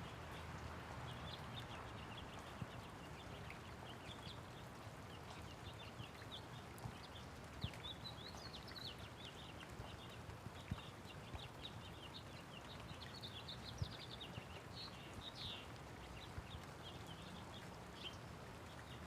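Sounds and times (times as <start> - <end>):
light rain falling: 0.0 - 19.0
small birds chirping: 1.1 - 19.0.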